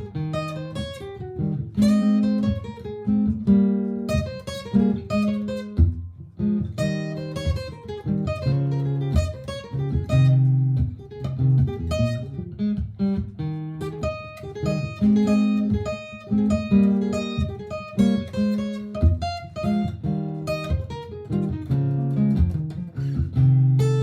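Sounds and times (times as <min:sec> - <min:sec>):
looped acoustic guitar: 0:00.0 - 0:24.0
plucked guitar notes and chords: 0:00.0 - 0:24.0.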